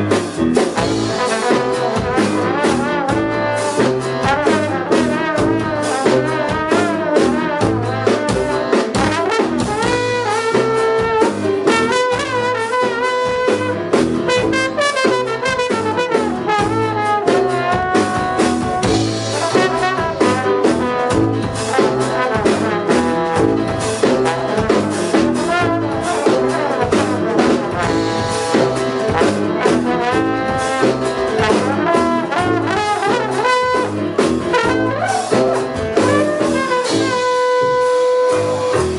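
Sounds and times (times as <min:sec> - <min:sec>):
big band jazz fusion: 0:00.0 - 0:38.9
busy drumming: 0:00.0 - 0:38.9
held horn chords: 0:00.0 - 0:38.9.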